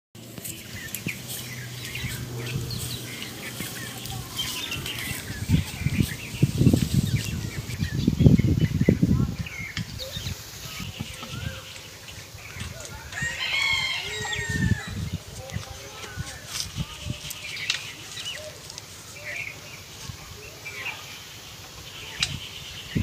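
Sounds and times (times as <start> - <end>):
small birds chirping: 0.2 - 23.0.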